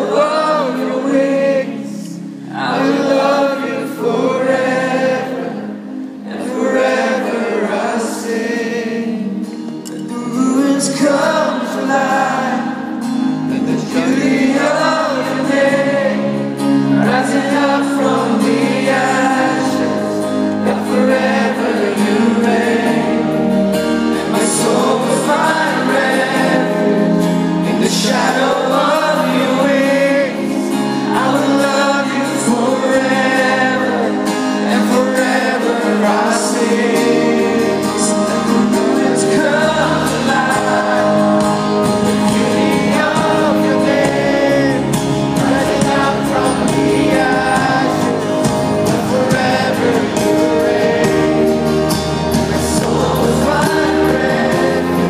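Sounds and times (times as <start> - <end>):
live worship band playing: 0.0 - 55.0
singers in full voice: 0.0 - 55.0.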